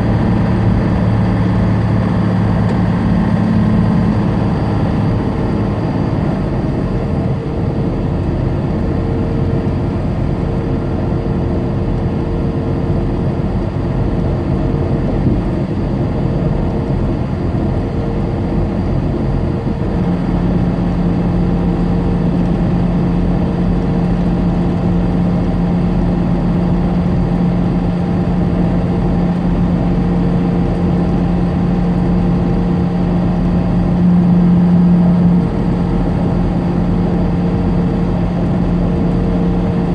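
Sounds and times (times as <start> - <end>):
road noise: 0.0 - 11.8, 13.4 - 39.9
steady low hum: 0.0 - 11.8, 12.7 - 39.9
truck engine drone: 0.0 - 39.9.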